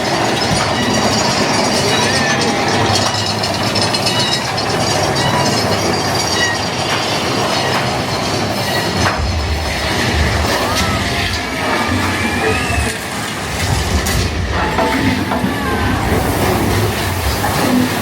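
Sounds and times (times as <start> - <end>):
roller coaster wheels rattling on rails: 0.0 - 18.0.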